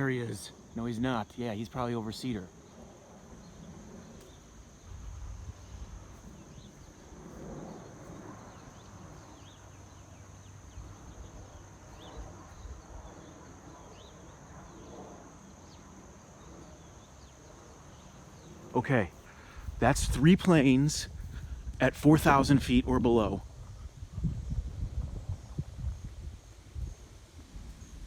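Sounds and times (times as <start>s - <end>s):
faint rumble of airliner: 0.0s - 28.0s
insects chirring: 0.0s - 28.0s.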